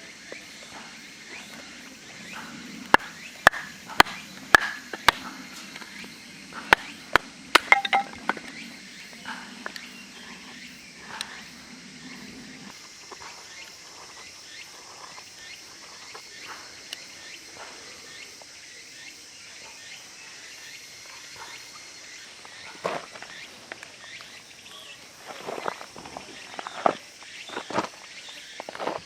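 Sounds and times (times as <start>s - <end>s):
high insect chorus: 0.0s - 29.0s.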